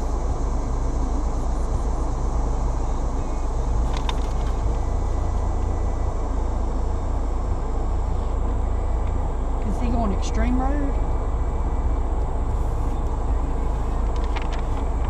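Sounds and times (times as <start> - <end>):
engine and drivetrain rumble: 0.0 - 15.0.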